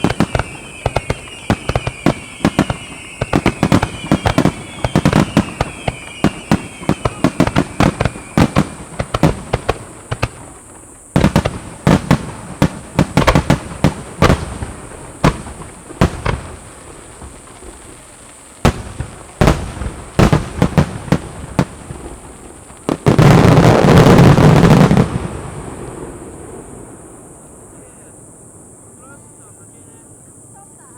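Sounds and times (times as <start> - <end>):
firework shells bursting: 0.0 - 26.0.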